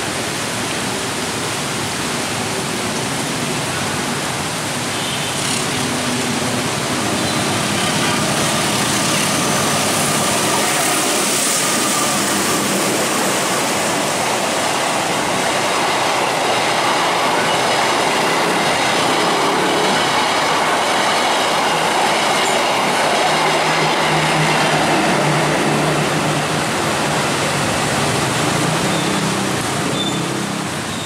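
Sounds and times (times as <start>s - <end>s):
train wheels rushing on rails: 0.0s - 31.0s.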